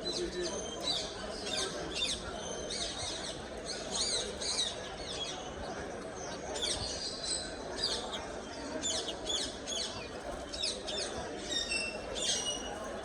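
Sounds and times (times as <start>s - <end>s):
murmur of people talking: 0.0s - 13.0s
cage birds chirping: 0.1s - 13.0s.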